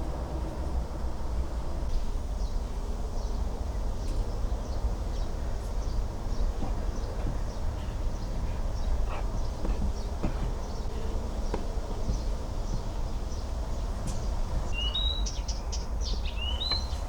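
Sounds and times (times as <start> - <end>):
steady low rumble: 0.0 - 14.8.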